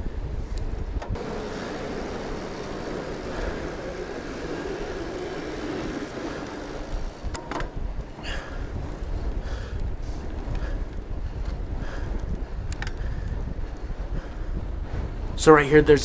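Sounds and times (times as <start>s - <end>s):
bike tyre hum and rumble: 0.0s - 16.0s
wind buffeting microphone: 0.0s - 16.0s.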